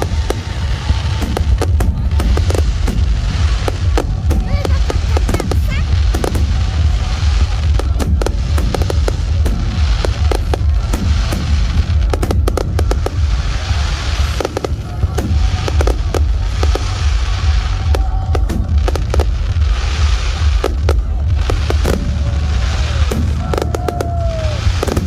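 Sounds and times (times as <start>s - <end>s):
fireworks cracks and bangs: 0.0s - 25.0s
low rumble of booming: 0.0s - 25.0s.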